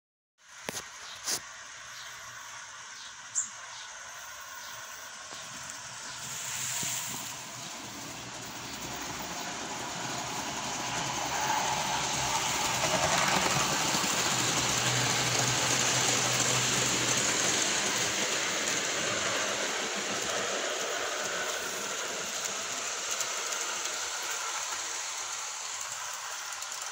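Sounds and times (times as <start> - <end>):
model steam train on track: 0.4 - 26.9.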